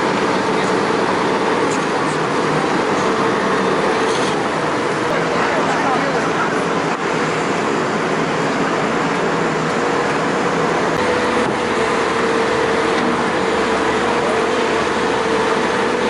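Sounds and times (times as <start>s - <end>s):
diesel engines running: 0.0s - 16.0s
steady droning tone: 0.0s - 16.0s.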